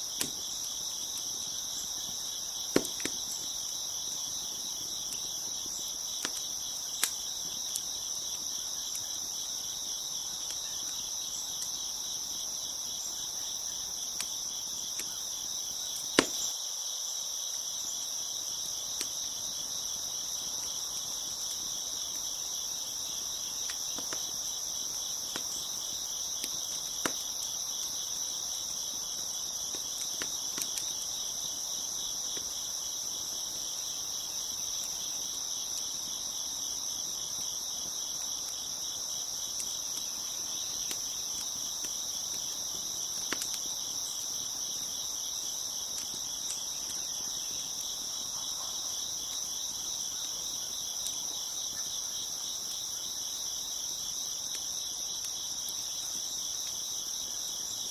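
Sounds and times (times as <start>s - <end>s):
wood fire popping: 0.0s - 16.6s, 18.0s - 52.7s, 53.8s - 57.9s
crickets chirping: 0.0s - 57.9s.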